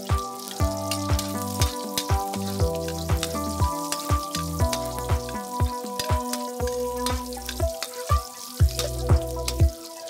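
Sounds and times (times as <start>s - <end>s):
electronic music with kick drum: 0.0s - 10.0s
garlic sizzling in oil: 0.0s - 10.0s.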